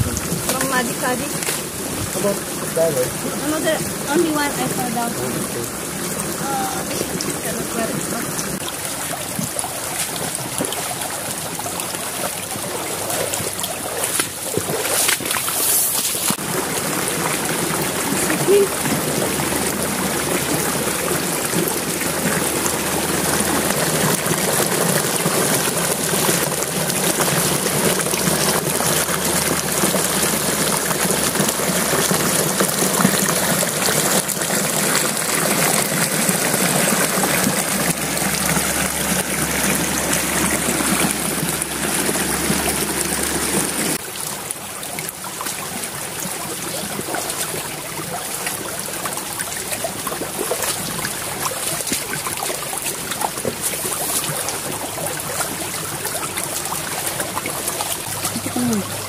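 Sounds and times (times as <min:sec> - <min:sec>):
stream running over stones: 0:00.0 - 0:59.0.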